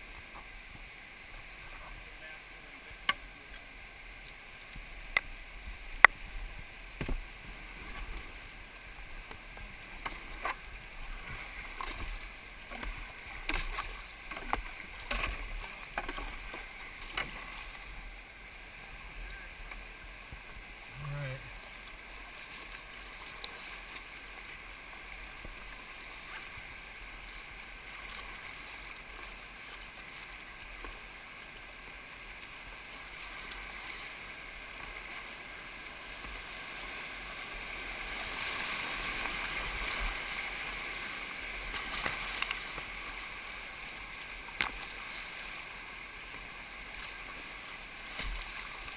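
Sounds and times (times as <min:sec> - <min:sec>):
paddle splashes: 0:00.0 - 0:48.9
water slapping a boat: 0:00.0 - 0:48.9
whitewater rushing: 0:00.0 - 0:48.9.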